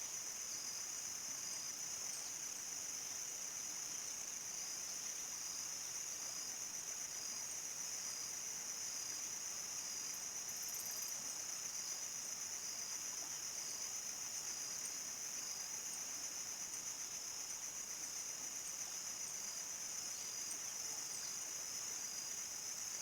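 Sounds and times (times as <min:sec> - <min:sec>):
crickets chirping chorus: 0:00.0 - 0:23.0.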